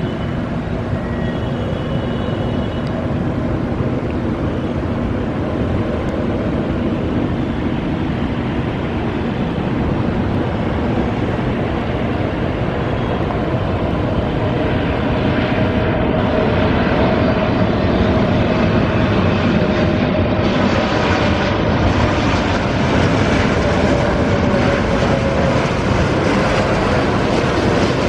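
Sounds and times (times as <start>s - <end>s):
jet aircraft rumble: 0.0s - 28.0s.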